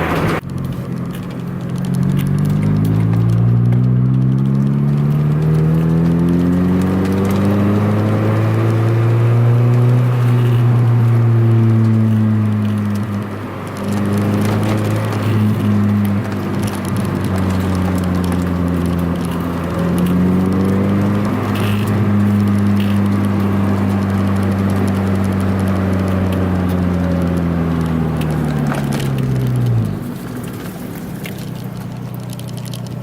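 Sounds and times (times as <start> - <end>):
car engine droning: 0.0 - 33.0.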